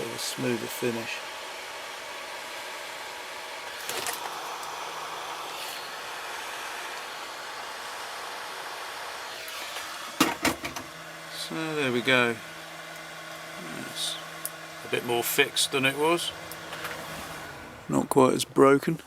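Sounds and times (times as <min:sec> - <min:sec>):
hot air gun blowing: 0:00.0 - 0:17.8.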